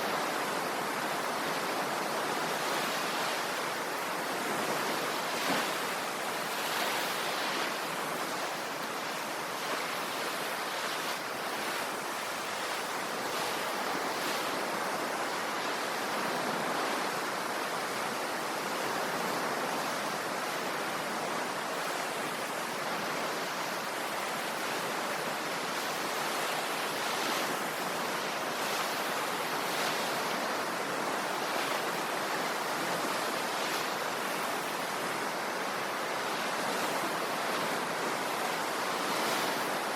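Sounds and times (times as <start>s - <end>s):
ocean waves washing: 0.0s - 39.9s.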